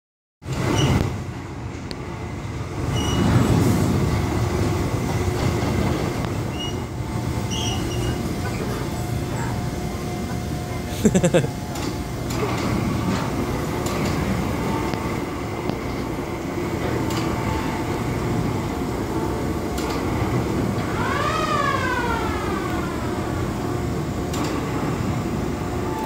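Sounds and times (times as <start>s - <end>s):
kiddie ride hum and rumble: 0.5s - 26.0s.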